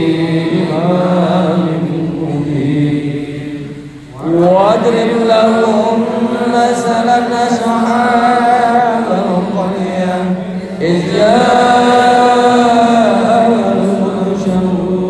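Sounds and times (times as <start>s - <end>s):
melodic chanting: 0.0s - 15.0s.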